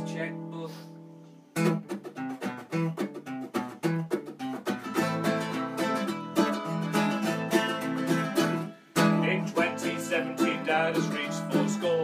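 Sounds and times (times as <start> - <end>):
acoustic guitar: 0.0 - 12.0
small plucked string instrument: 0.0 - 12.0.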